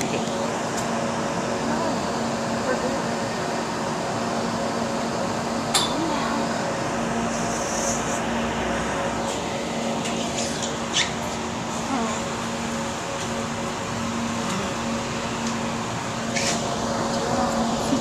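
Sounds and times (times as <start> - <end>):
aerial tram mechanical hum: 0.0 - 18.0.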